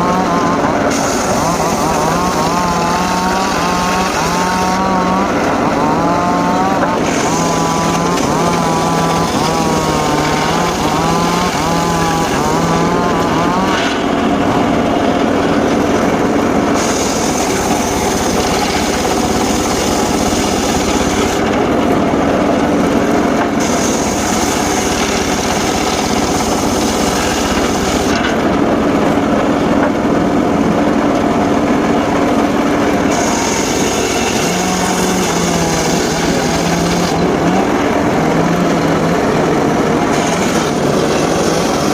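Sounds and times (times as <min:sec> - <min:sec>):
circular saw cutting wood: 0:00.0 - 0:41.9.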